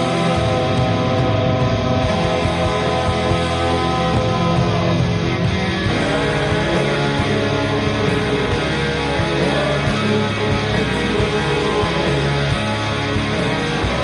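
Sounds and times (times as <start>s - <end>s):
heavy metal music: 0.0s - 14.0s.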